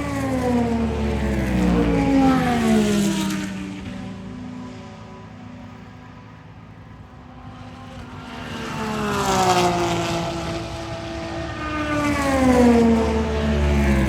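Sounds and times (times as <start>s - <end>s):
race cars passing at full speed: 0.0s - 14.0s.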